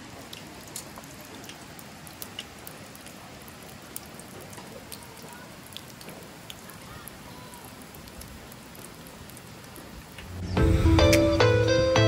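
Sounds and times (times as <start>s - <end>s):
sharp drips ticking: 0.0s - 11.7s
rain pattering: 0.0s - 12.0s.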